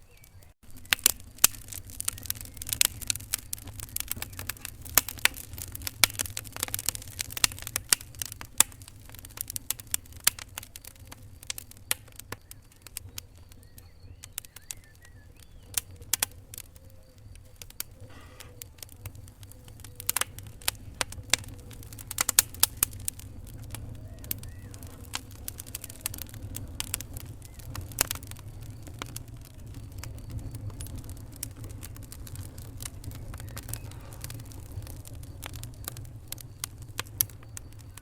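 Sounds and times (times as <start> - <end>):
fireplace fire crackling: 0.0 - 38.0.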